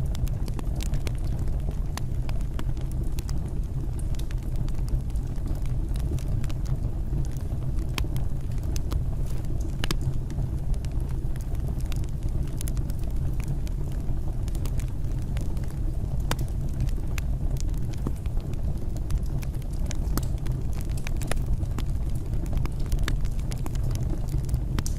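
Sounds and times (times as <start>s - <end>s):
fireplace fire crackling: 0.0s - 24.9s.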